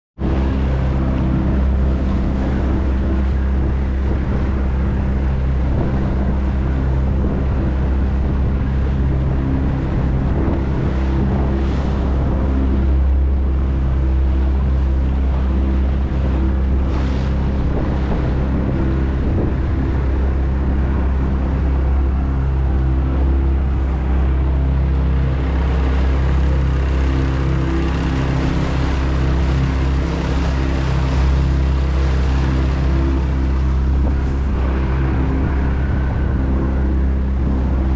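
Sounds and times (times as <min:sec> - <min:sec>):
outboard motor humming: 0:00.2 - 0:37.9
water splashing along hull: 0:00.2 - 0:37.9
wind on microphone: 0:00.2 - 0:37.9.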